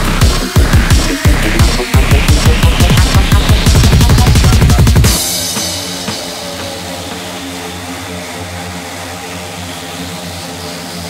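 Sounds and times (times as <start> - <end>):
chainsaw running: 0.0 - 11.0
music: 0.0 - 11.0.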